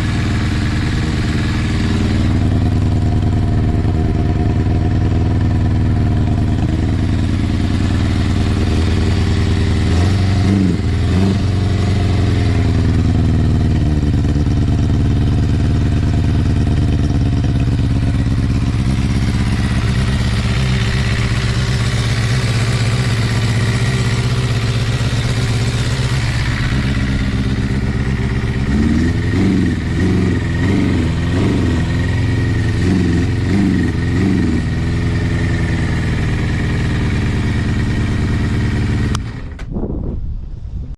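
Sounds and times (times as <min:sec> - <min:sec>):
motorcycle engine idling: 0:00.0 - 0:39.6
motorcycle throttle blips: 0:00.0 - 0:40.2.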